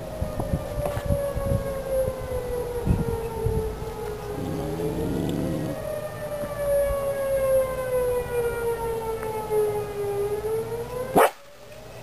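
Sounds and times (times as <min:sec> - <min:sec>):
warning siren wailing: 0:00.0 - 0:12.0.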